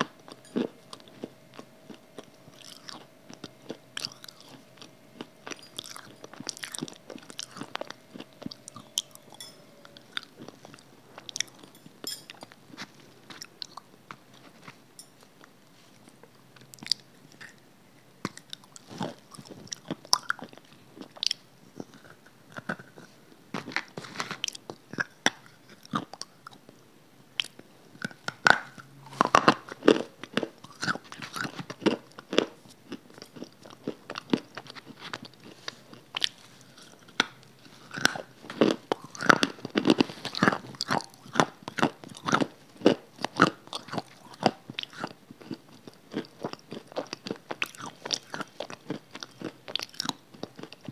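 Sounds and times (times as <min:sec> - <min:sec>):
crunchy biting and chewing: 0:00.0 - 0:14.8, 0:18.2 - 0:26.7, 0:27.4 - 0:50.9.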